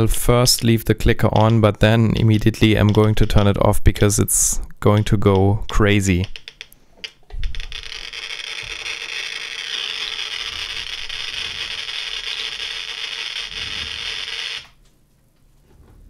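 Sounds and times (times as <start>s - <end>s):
geiger counter crackling clicks: 1.0s - 4.2s, 4.9s - 14.8s.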